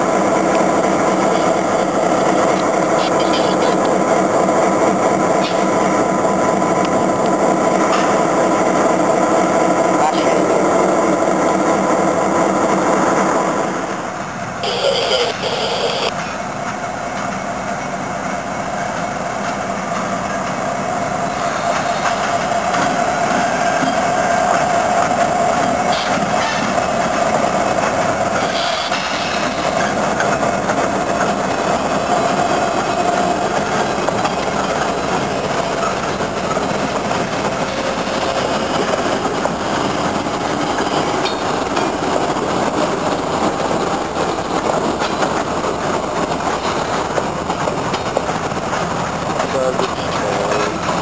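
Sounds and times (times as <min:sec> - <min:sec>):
diesel train engine and rail rumble: 0:00.0 - 0:51.0
freight locomotives rolling past: 0:00.0 - 0:51.0.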